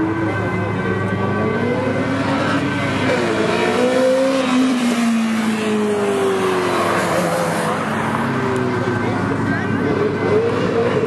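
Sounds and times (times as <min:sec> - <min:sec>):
sports car engines revving: 0:00.0 - 0:11.0.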